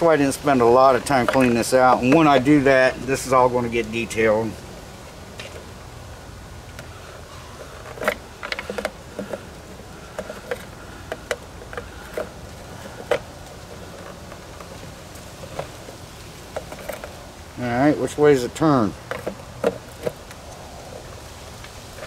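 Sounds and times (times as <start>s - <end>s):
faint steady background noise: 0.0s - 22.0s.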